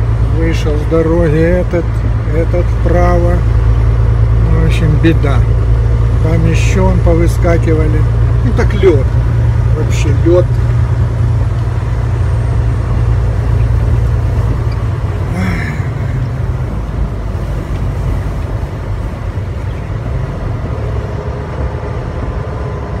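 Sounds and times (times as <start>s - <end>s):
engine and road noise inside truck: 0.0s - 23.0s.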